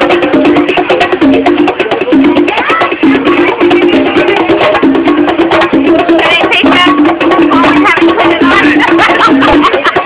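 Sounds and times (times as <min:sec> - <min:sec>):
conga drums fast rhythm: 0:00.0 - 0:10.0.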